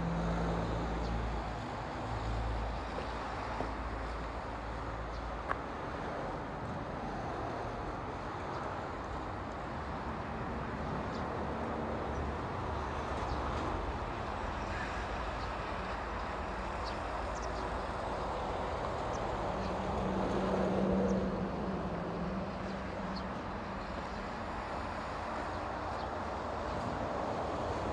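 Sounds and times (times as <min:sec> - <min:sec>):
traffic rumble: 0:00.0 - 0:27.9
wind: 0:00.0 - 0:27.9.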